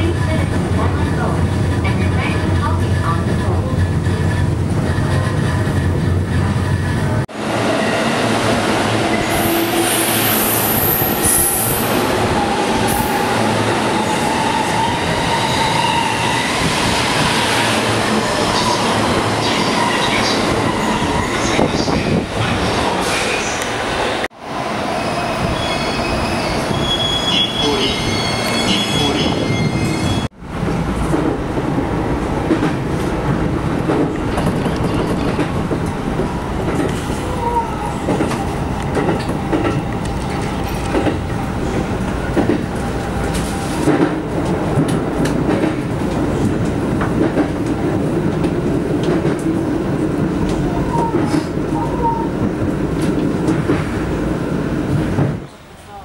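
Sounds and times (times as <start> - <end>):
train wheels rumbling on track: 0.0 - 55.8.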